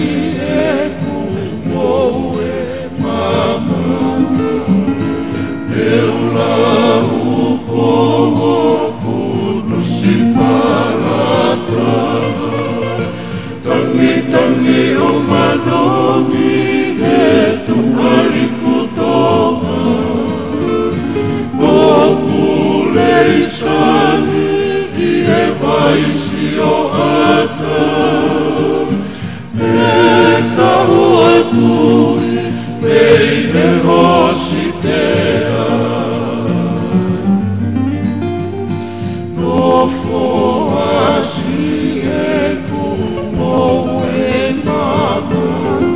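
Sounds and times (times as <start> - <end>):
men singing in harmony: 0.0 - 37.5, 39.2 - 45.9
acoustic guitars: 0.0 - 45.9.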